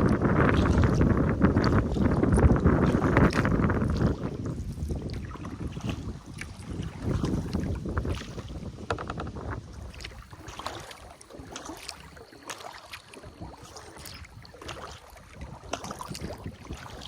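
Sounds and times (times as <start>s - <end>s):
paddle splashing in water: 0.0s - 17.0s
water lapping against hull: 0.0s - 17.0s.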